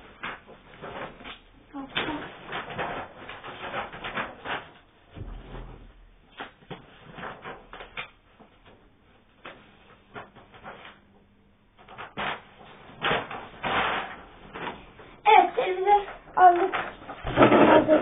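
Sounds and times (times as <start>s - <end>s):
rustling and light knocks: 0.0s - 11.2s, 11.8s - 18.0s.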